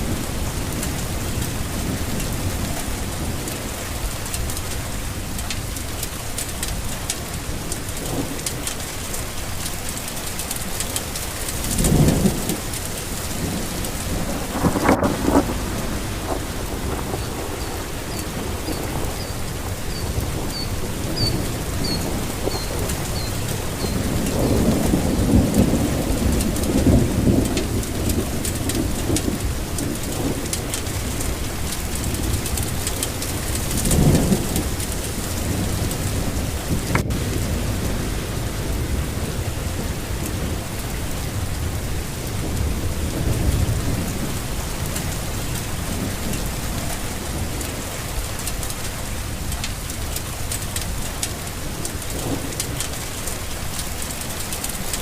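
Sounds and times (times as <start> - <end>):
steady rain falling: 0.0 - 55.0
low thunder rumbling: 10.6 - 55.0.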